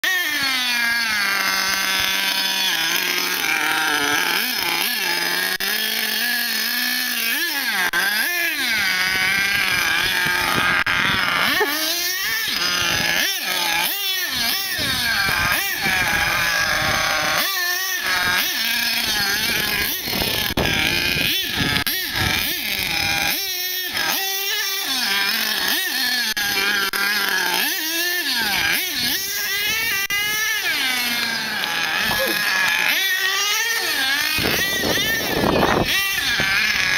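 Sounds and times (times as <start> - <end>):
rc truck engine buzzing and revving: 0.0 - 36.9.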